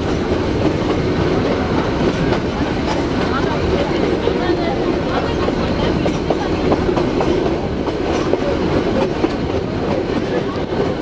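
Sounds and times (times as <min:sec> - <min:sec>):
train carriage rumbling: 0:00.0 - 0:11.0
wheels clattering over rail joints: 0:00.0 - 0:11.0.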